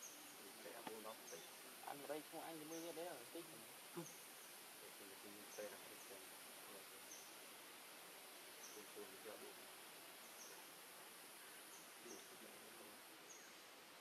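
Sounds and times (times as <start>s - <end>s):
insects hissing: 0.0s - 14.0s.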